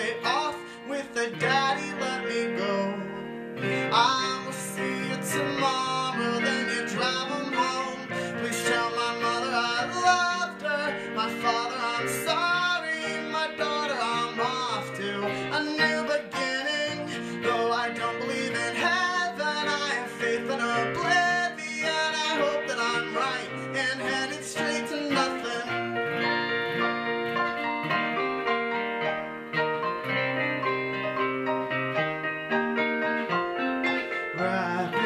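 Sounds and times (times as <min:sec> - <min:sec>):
acoustic guitar: 0:00.0 - 0:35.0
keyboard playing: 0:00.0 - 0:35.0.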